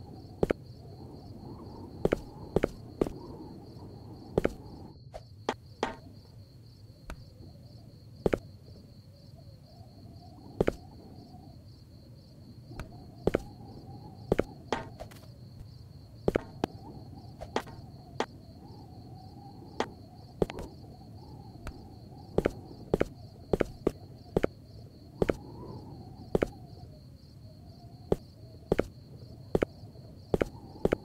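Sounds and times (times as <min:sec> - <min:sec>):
low steady background noise: 0:00.0 - 0:31.0.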